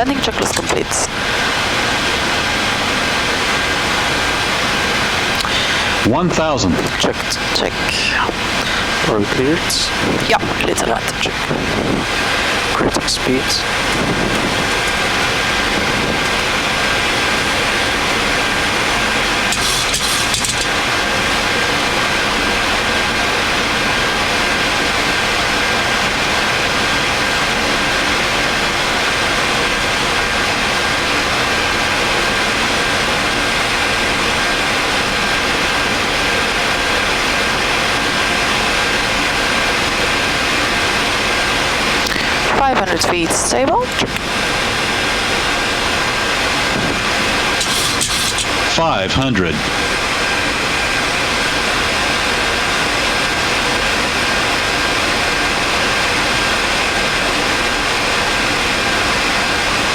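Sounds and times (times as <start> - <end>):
airflow and engine noise: 0.0 - 59.9.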